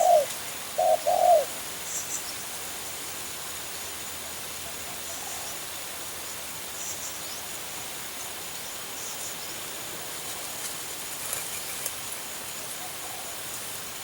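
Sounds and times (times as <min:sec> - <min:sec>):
even hiss: 0:00.0 - 0:14.0.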